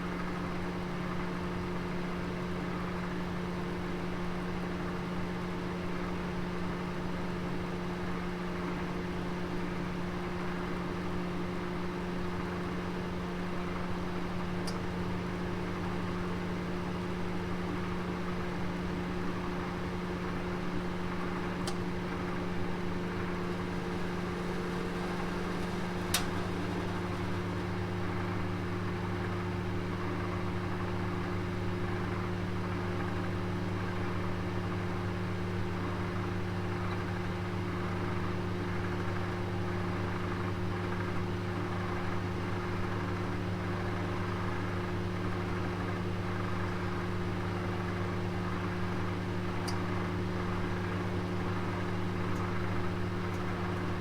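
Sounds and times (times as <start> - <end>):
oven humming and whirring: 0.1 - 54.0.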